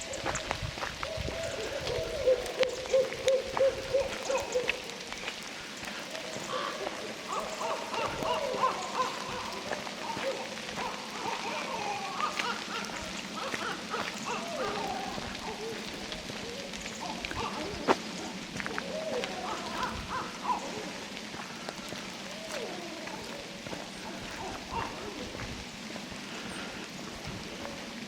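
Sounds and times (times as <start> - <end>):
steady rain falling: 0.0 - 28.0
water drops pattering and dripping: 0.0 - 28.0.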